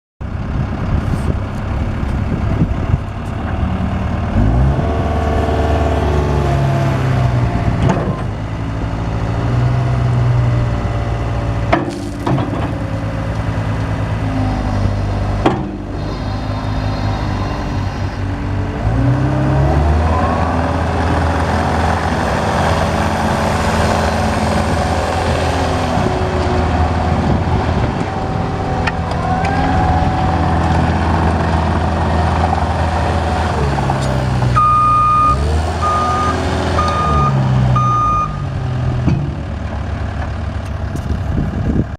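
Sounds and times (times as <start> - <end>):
diesel engine revving: 0.2 - 41.9.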